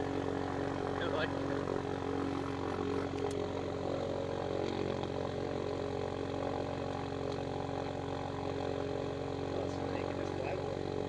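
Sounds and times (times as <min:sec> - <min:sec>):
aircraft engine and propeller running: 0:00.0 - 0:11.0.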